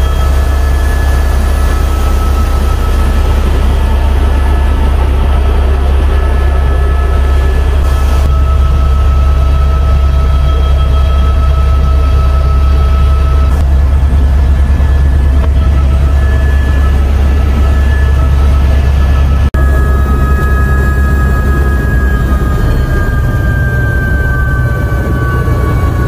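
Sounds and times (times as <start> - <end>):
helicopter rotor and engine drone: 0.0 - 26.0
high-pitched whining tones: 0.0 - 26.0.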